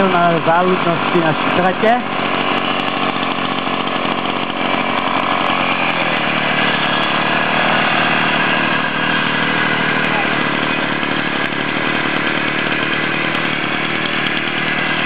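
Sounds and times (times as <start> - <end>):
small tractor engine running: 0.0 - 15.0.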